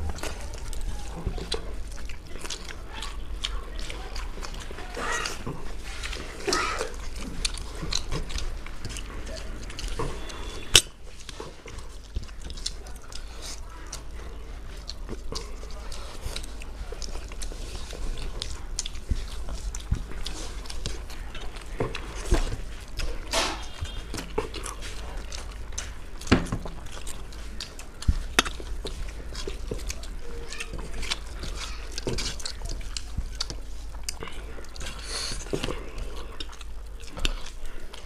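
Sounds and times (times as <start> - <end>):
fingers working food on plates: 0.0 - 38.0
steady low hum: 0.0 - 38.0
wet chewing and lip smacks: 0.0 - 38.0.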